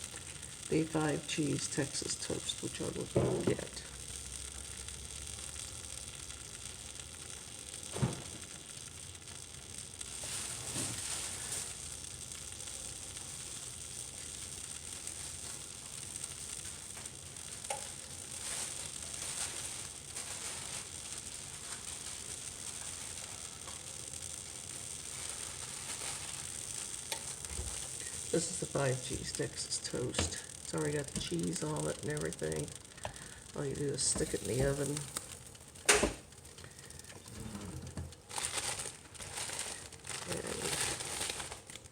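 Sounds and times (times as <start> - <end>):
vegetables sizzling in a pan: 0.0 - 41.9.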